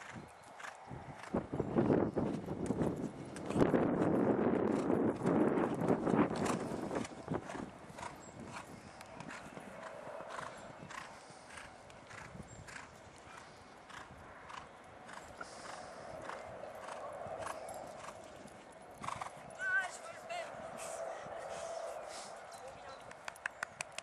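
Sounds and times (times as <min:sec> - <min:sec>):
horse hoofbeats on sand: 0:00.0 - 0:19.6.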